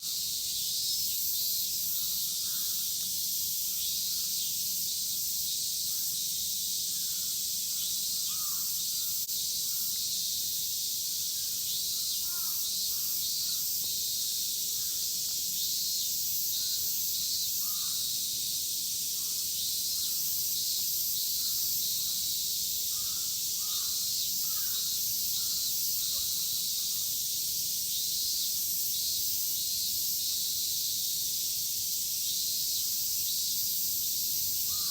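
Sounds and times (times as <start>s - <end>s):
cicada chorus drone: 0.0s - 34.9s.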